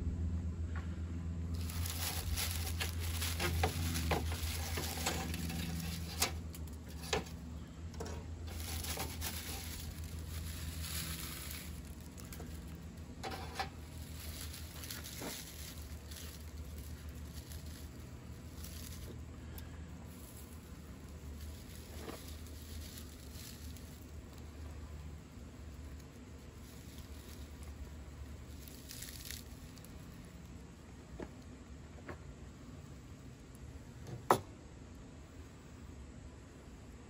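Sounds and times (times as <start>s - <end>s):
steady low hum: 0.0s - 37.0s
dry leaves crinkling: 1.4s - 31.8s.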